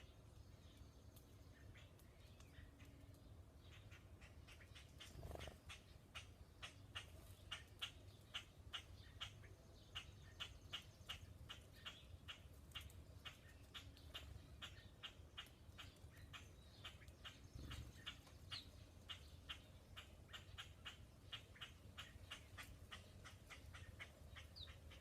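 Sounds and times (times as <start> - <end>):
small animal chip calls: 3.7 - 25.0.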